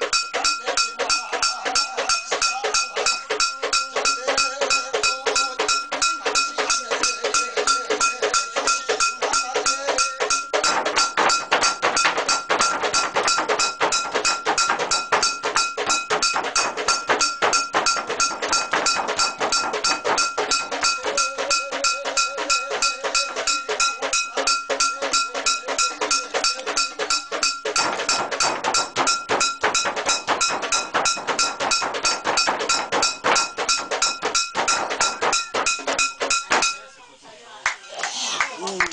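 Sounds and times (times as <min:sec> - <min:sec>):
metal gongs beaten in fast rhythm: 0:00.0 - 0:36.8.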